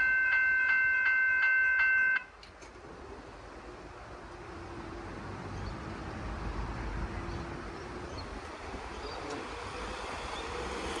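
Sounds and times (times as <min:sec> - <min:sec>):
diesel railcar passing: 0:00.0 - 0:11.0.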